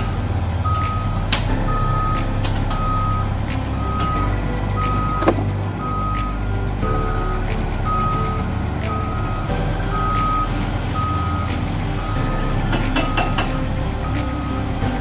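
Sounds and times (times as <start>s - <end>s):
reversing alarm beeping: 0.0s - 14.6s
engine rumble: 0.0s - 15.0s.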